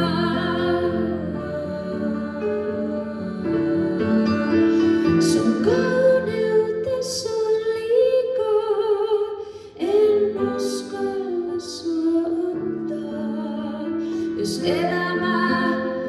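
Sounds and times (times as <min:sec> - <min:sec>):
piano chords: 0:00.0 - 0:08.6, 0:09.8 - 0:16.0
woman singing: 0:00.0 - 0:16.0.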